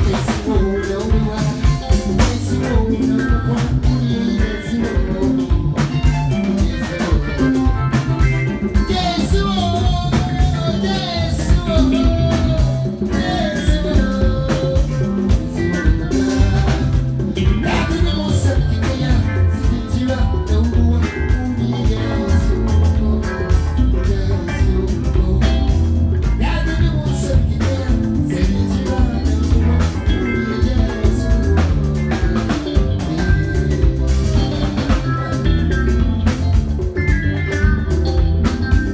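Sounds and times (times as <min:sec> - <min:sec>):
bass and drum beat: 0:00.0 - 0:38.9
live band playing: 0:00.0 - 0:38.9.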